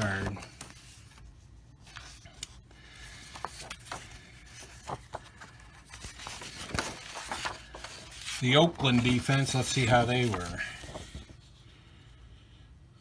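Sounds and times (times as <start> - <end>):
cards rustling: 0.0 - 11.5.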